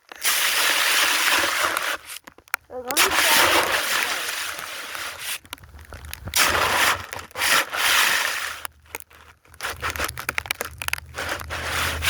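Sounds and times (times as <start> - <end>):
rough rubbing and scraping: 0.0 - 12.0.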